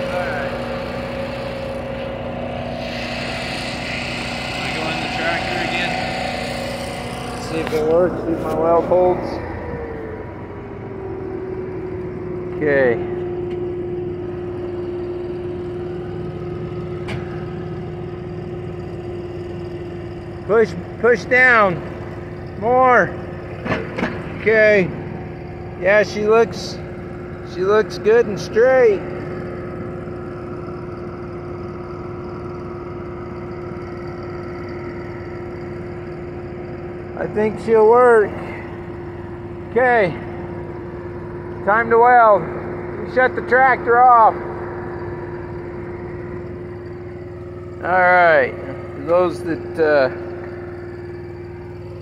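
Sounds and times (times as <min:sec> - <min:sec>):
tractor engine idling: 0:00.0 - 0:52.0.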